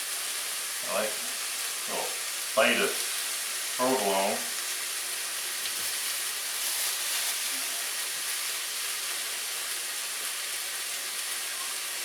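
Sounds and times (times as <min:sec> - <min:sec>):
steak sizzling in a pan: 0:00.0 - 0:12.0.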